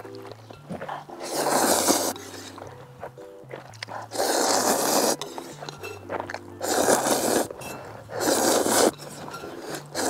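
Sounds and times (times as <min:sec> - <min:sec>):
slurping noodles: 0:00.7 - 0:02.7, 0:03.8 - 0:10.0.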